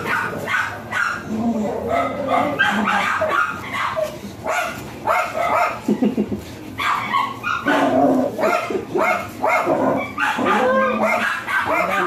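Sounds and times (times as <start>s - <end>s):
dog barking: 0.0s - 1.3s, 1.9s - 5.8s, 6.8s - 12.0s.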